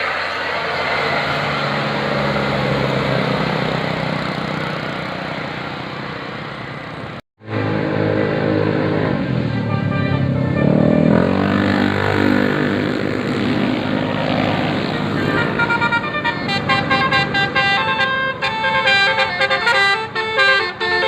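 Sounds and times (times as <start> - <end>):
bus engine running: 0.0 - 21.0
road noise: 0.0 - 21.0.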